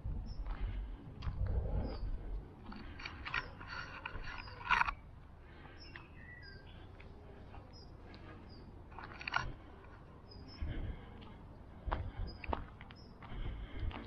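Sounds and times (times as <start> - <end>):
footsteps on dirt path: 0.0 - 14.0
small birds chirping: 0.0 - 14.0.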